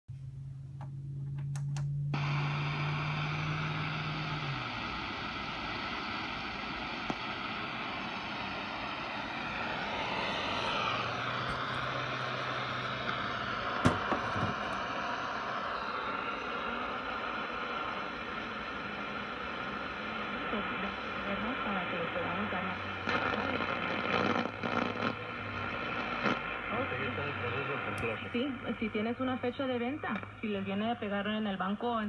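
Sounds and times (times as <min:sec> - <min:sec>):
low steady hum: 0:00.1 - 0:32.0
radio static hiss: 0:02.2 - 0:32.0.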